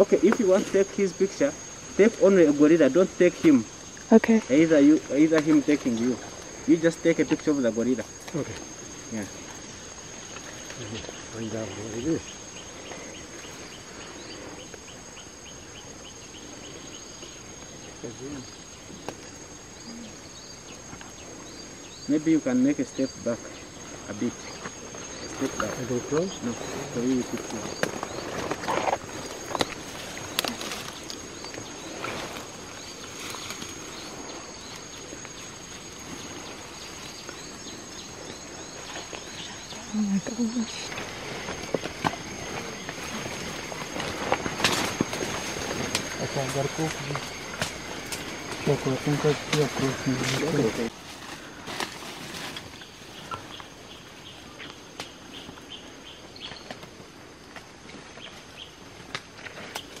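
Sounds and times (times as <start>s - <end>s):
high-pitched insect drone: 0.0s - 60.0s
small birds chirping: 0.2s - 51.6s, 52.2s - 56.9s.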